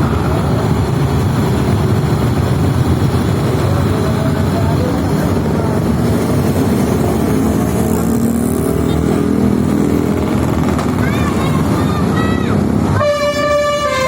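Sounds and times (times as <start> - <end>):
large vehicle engine: 0.0 - 14.0
motorcycle engines: 0.0 - 14.0
road traffic: 0.0 - 14.0.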